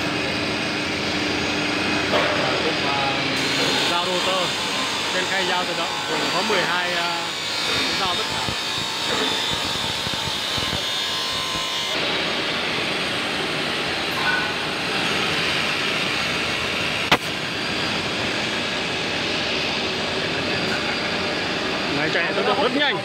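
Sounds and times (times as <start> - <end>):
router machine running: 0.0 - 23.0.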